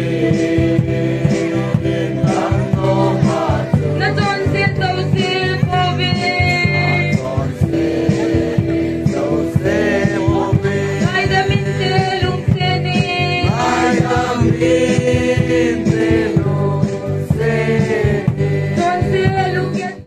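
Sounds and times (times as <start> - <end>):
dance music with singing: 0.0 - 20.0.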